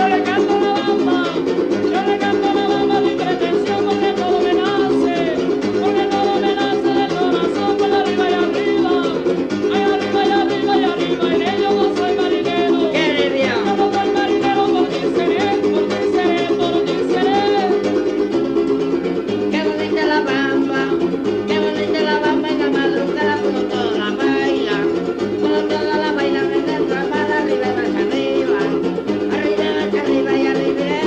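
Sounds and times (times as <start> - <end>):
person singing: 0.0 - 31.0
plucked string instruments: 0.0 - 31.0.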